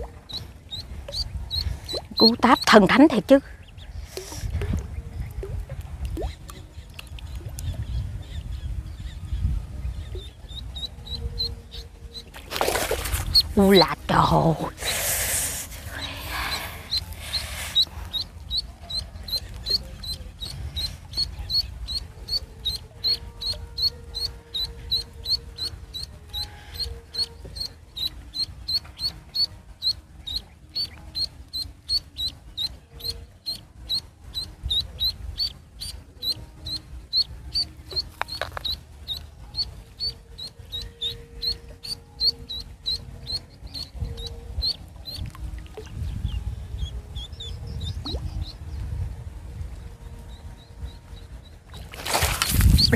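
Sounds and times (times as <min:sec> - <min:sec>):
duckling peeping: 0:00.0 - 0:03.8, 0:09.9 - 0:15.0, 0:16.0 - 0:45.3, 0:46.3 - 0:48.6, 0:50.3 - 0:52.9.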